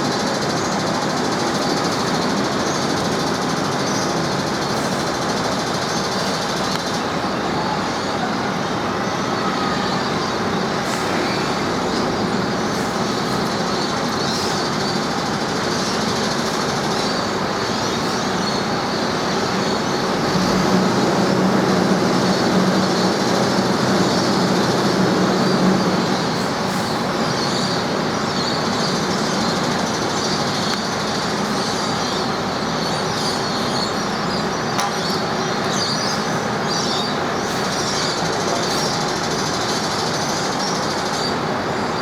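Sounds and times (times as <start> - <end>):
train running: 0.0 - 42.0.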